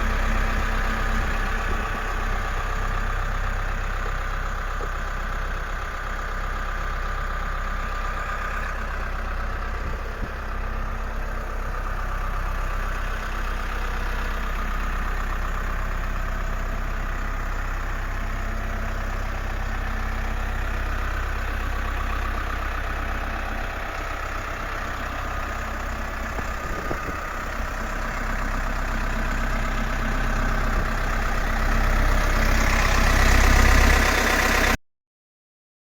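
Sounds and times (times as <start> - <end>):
tractor diesel engine running: 0.0 - 34.8.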